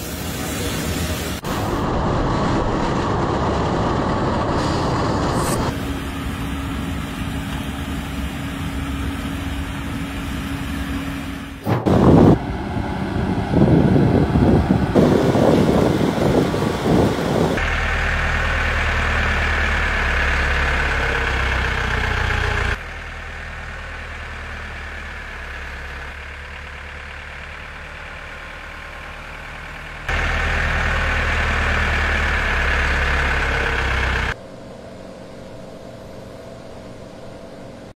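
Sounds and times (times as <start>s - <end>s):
tractor engines running: 0.0s - 34.4s
harvesting machinery running: 1.0s - 34.4s.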